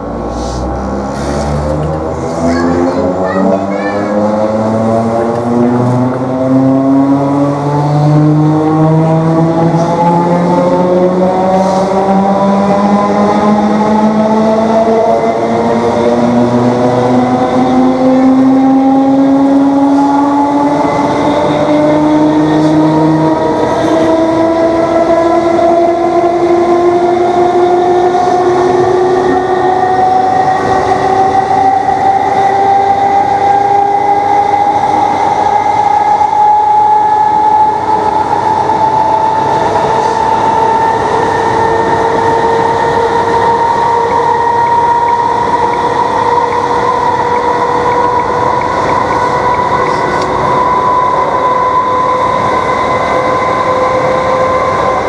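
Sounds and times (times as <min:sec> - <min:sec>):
train traction motors whining: 0:00.0 - 0:55.0.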